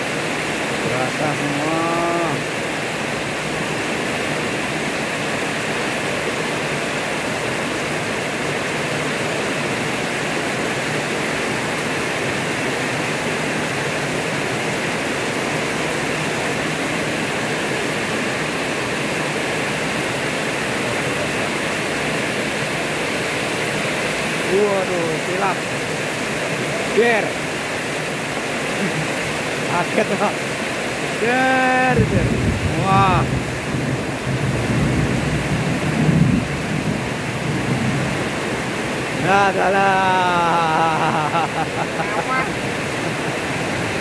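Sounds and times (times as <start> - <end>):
heavy rain splashing on paving: 0.0 - 44.0.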